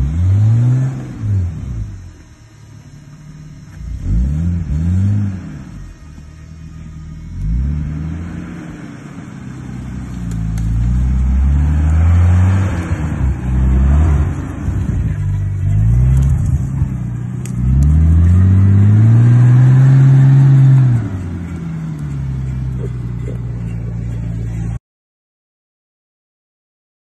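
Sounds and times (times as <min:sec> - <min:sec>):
car engine revving: 0:00.0 - 0:24.8.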